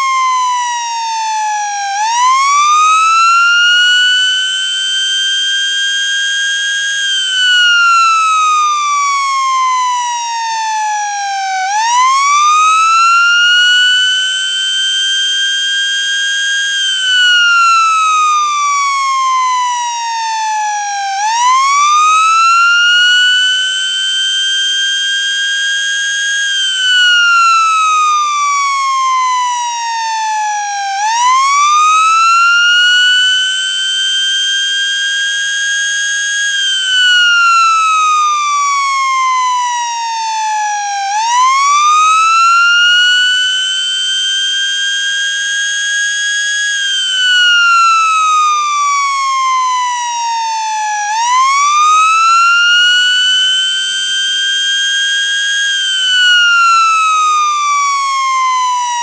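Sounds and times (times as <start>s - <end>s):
tornado siren wailing: 0.0s - 59.0s.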